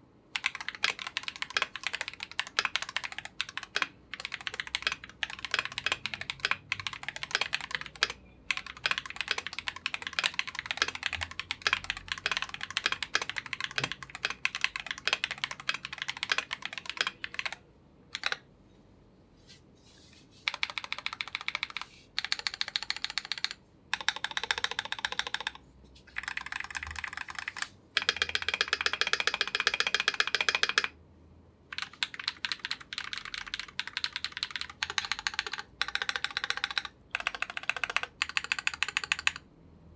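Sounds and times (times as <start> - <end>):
mechanical keyboard typing: 0.3 - 18.4, 20.5 - 31.0, 31.7 - 39.5.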